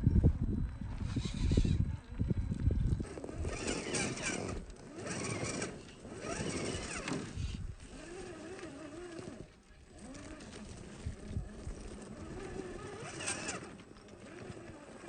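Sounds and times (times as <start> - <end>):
electric motor and gears whining: 0.1 - 15.0.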